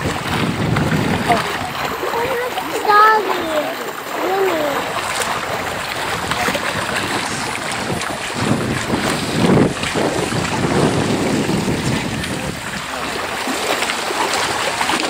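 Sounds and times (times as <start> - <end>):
lapping water: 0.0 - 15.0
wind buffeting microphone: 0.0 - 15.0.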